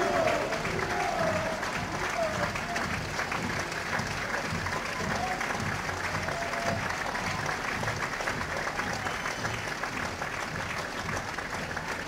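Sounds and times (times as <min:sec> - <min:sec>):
crowd clapping and applauding: 0:00.0 - 0:12.0.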